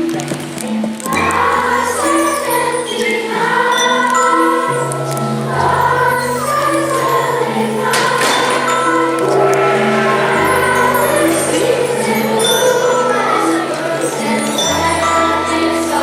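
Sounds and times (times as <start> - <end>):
choir singing: 0.0 - 16.0
instrumental accompaniment: 0.0 - 16.0.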